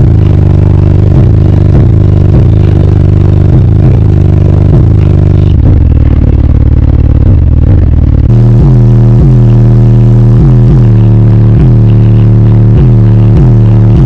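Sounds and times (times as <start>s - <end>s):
car rattling: 0.0s - 14.0s
loud bass music: 0.0s - 14.0s.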